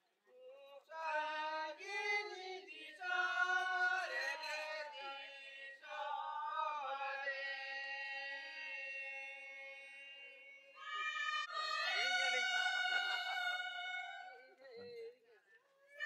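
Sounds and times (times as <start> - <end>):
voices singing together: 0.6 - 15.2.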